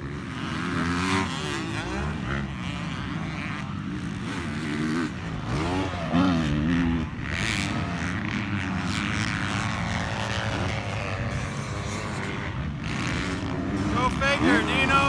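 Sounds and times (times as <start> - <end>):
dirt bike engines droning: 0.0 - 15.0.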